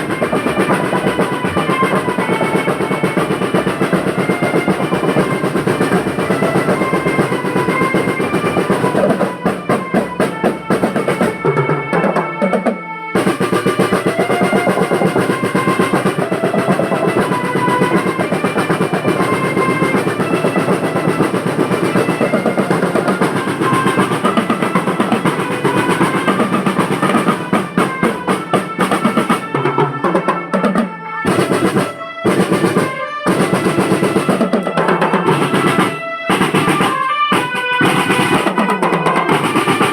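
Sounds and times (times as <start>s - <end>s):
marching drum band playing: 0.0s - 39.9s
snare rolls: 0.0s - 39.9s.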